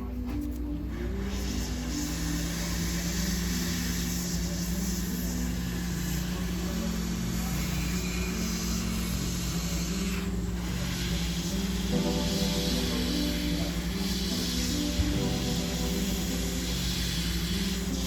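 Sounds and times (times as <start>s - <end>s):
music with low held notes: 0.0s - 18.0s
steady hiss: 0.0s - 18.0s.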